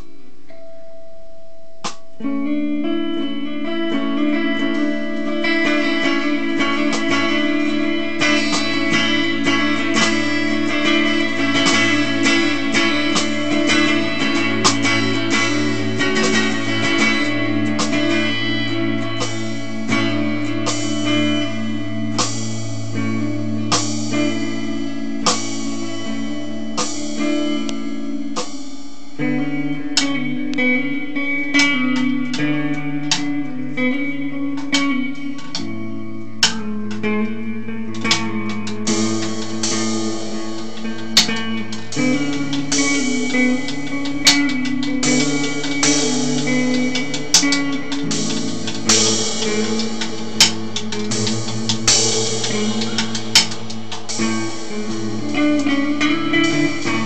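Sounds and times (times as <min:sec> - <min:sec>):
guitar ringing chords: 0:00.0 - 0:57.0
snare and cymbal strikes: 0:01.6 - 0:02.6, 0:03.2 - 0:57.0.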